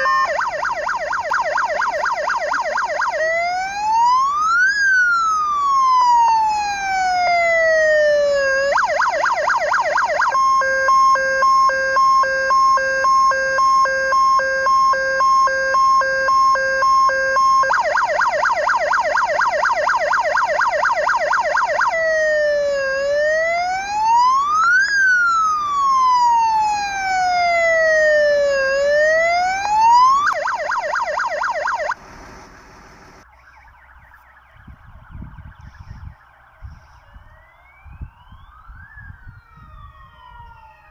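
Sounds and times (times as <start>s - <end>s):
fire engine siren: 0.0s - 40.9s.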